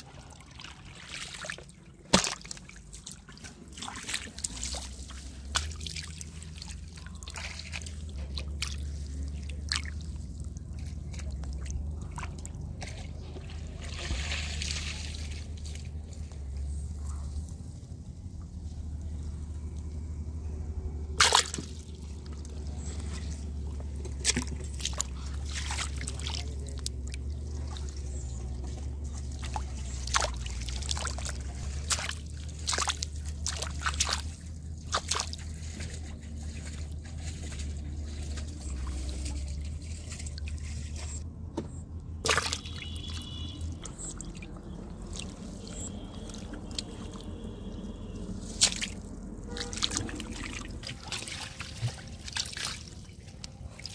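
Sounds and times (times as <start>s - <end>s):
low steady rumble: 0.0s - 53.9s
water splashing and sloshing: 0.0s - 53.9s.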